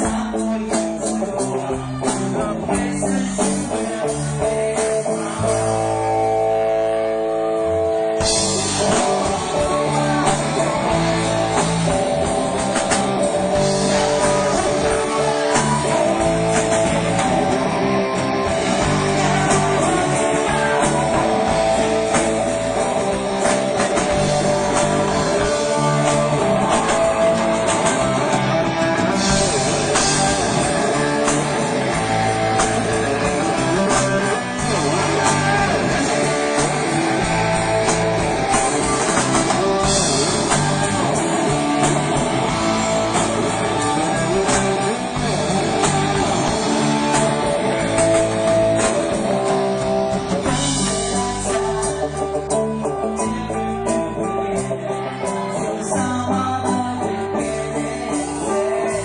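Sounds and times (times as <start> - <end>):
drums: 0.0 - 59.0
electric guitar: 0.0 - 59.0
rock band playing: 0.0 - 59.0.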